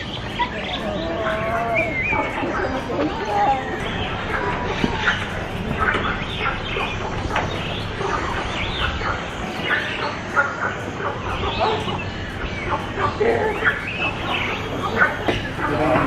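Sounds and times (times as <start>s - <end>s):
chorus of birds calling: 0.0s - 16.0s.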